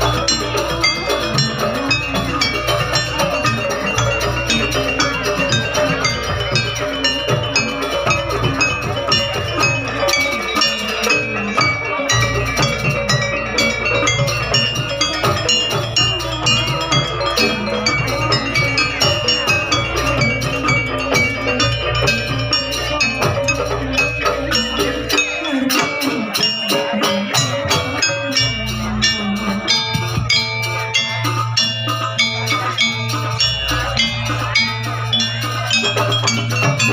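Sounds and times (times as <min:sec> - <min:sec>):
drums: 0:00.0 - 0:36.9
tuned metal percussion: 0:00.0 - 0:36.9.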